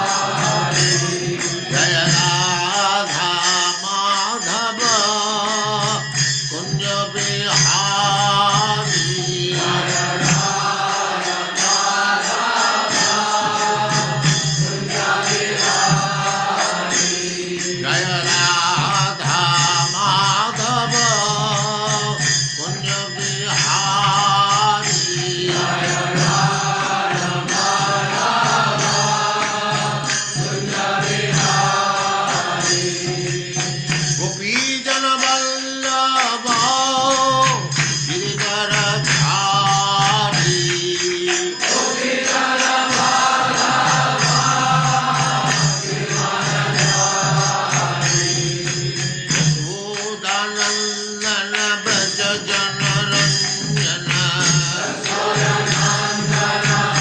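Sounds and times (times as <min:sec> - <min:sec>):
person chanting melodically: 0:00.0 - 0:49.0, 0:49.6 - 0:57.0.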